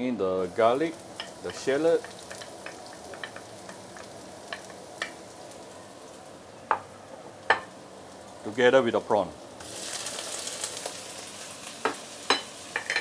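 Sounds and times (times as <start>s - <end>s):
garlic sizzling in hot oil: 0.3s - 13.0s.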